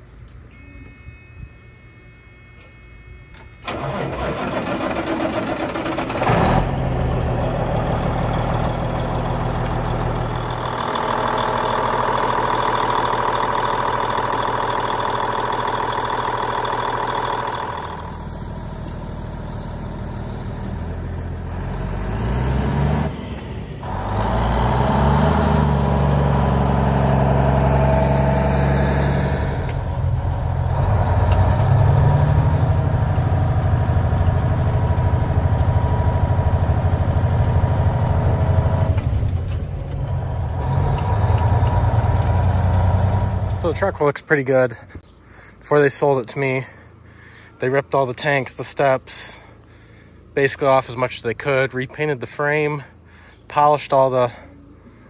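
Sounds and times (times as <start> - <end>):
diesel truck engine: 0.0 - 55.0.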